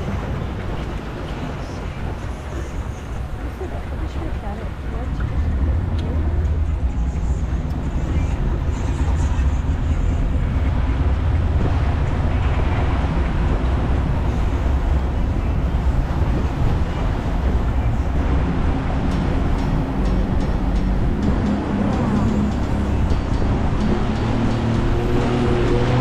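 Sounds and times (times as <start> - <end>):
motorboat engine rumbling: 0.0 - 26.0
water noise: 0.0 - 26.0
wind noise: 0.0 - 26.0.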